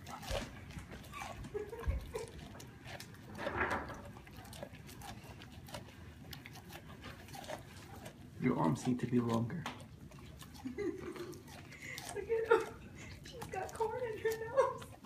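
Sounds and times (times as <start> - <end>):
dog chewing corn cob: 0.0 - 15.0.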